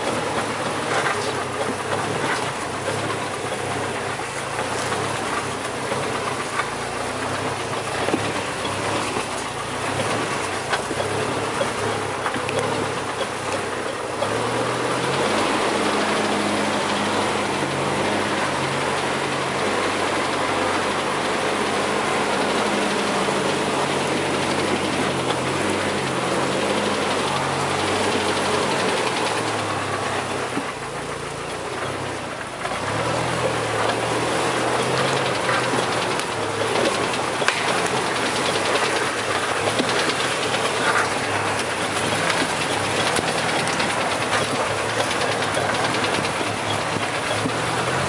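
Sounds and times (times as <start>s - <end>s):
off-road vehicle engine: 0.0s - 48.0s
tyre and rattle noise: 0.0s - 48.0s.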